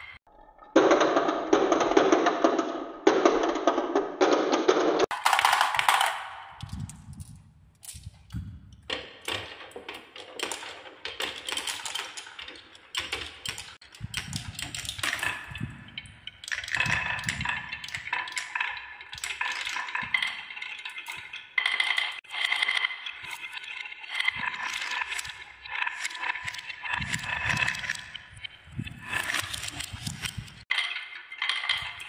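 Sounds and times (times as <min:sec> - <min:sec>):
marbles rolling on wooden tracks: 0:00.0 - 0:32.0.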